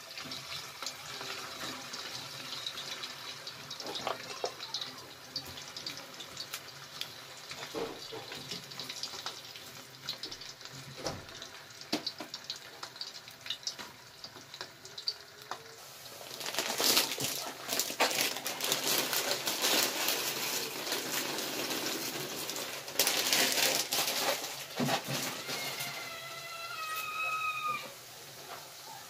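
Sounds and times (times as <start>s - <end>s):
oil popping and sizzling: 0.0s - 29.0s.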